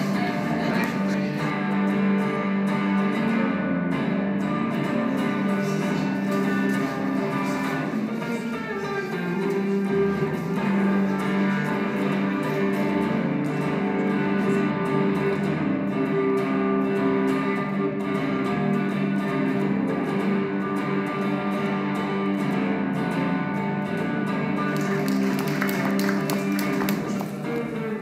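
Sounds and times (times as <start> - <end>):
guitar instrumental music: 0.0 - 28.0.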